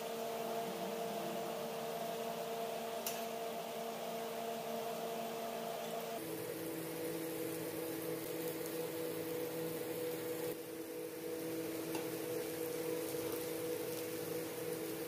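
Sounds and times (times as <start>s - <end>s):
machine hum with tones: 0.0s - 15.0s.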